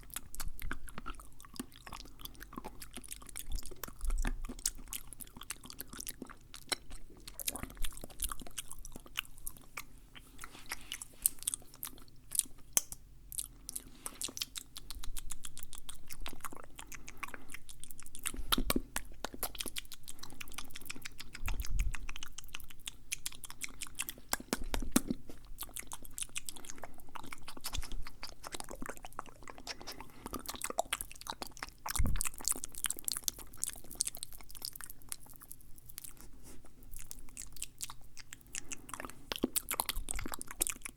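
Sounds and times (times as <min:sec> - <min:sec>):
wet mouth clicks and smacks: 0:00.0 - 0:36.3.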